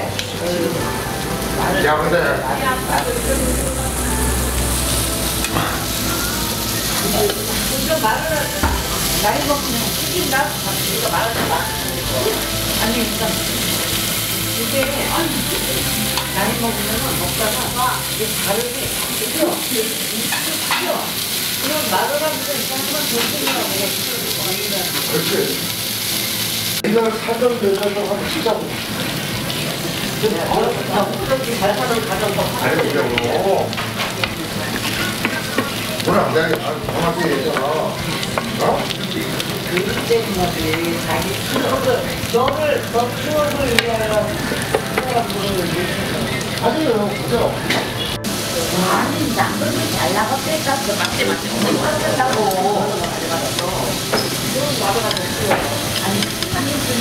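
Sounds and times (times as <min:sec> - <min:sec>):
meat sizzling on a griddle: 0:00.0 - 0:57.0.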